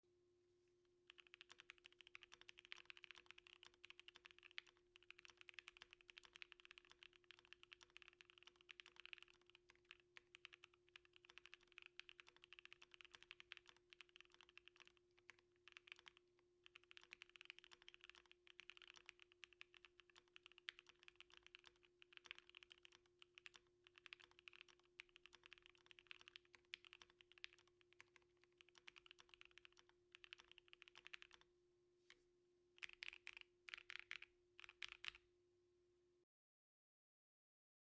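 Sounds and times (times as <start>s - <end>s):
mechanical keyboard typing: 1.1s - 31.4s, 32.8s - 35.2s.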